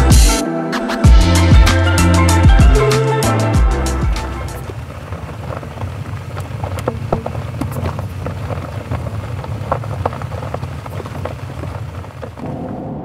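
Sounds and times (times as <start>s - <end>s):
gravel ticking: 1.1s - 12.6s
truck road rumble: 1.1s - 12.7s.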